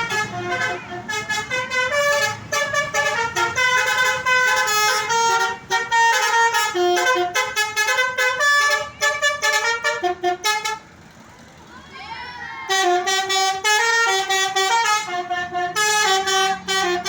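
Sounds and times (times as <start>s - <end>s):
multi-tone bus horn melody: 0.0s - 11.1s, 12.6s - 17.0s.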